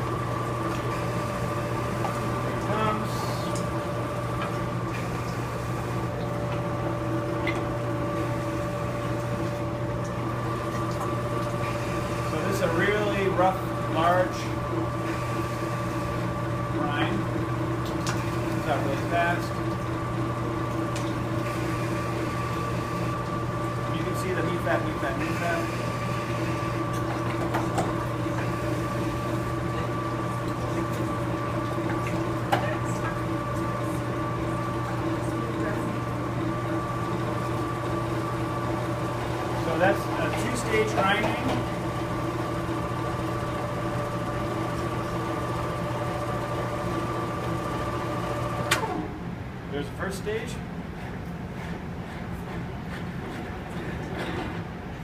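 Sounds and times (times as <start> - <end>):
electric meat grinder humming: 0.0 - 49.3.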